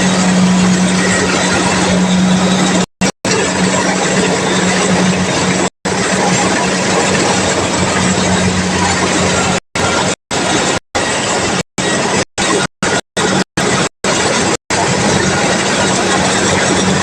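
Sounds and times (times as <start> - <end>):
combine harvester machinery: 0.0 - 17.0.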